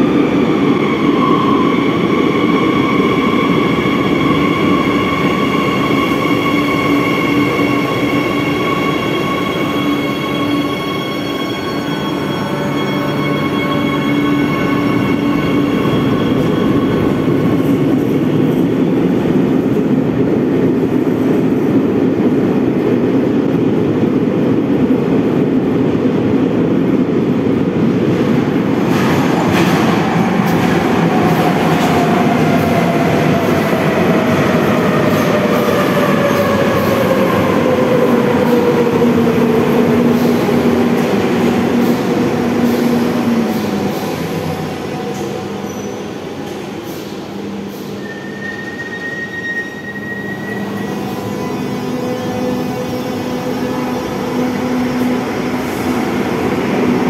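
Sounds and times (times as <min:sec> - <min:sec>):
trains rumbling in tunnel: 0:00.0 - 0:57.0.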